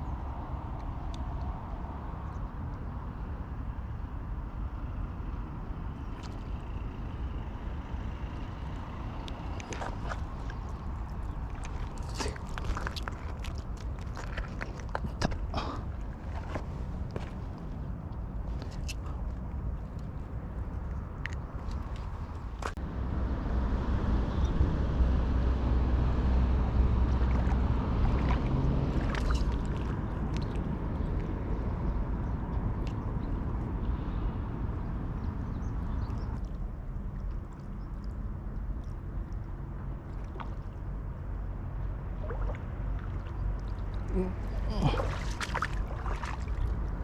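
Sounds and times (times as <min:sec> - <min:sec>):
faint water-like noise: 0:00.0 - 0:22.8, 0:25.5 - 0:47.0
low rumble: 0:05.4 - 0:47.0.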